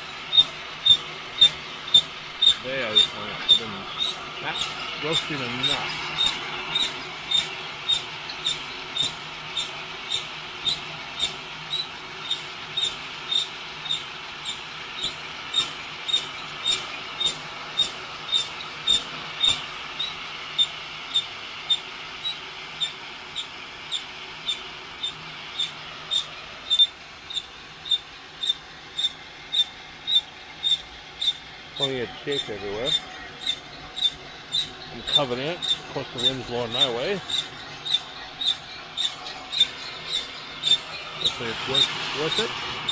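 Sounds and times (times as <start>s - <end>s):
heat gun blowing: 0.0s - 42.9s
roaster drum squeaking: 0.0s - 42.9s.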